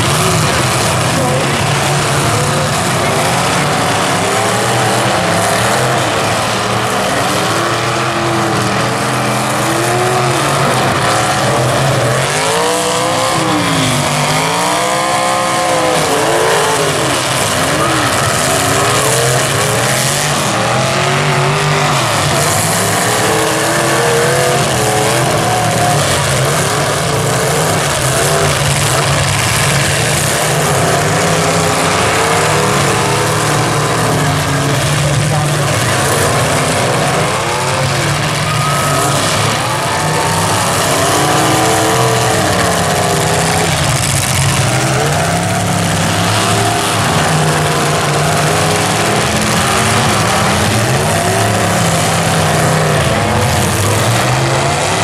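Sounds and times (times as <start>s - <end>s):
car engines revving: 0.0s - 55.0s
crowd din: 0.0s - 55.0s.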